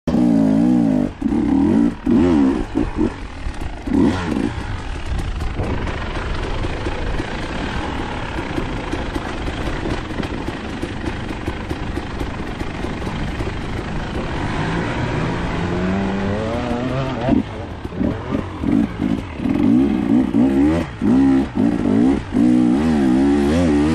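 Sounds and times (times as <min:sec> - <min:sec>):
dirt bike engine revving: 0:00.1 - 0:23.9.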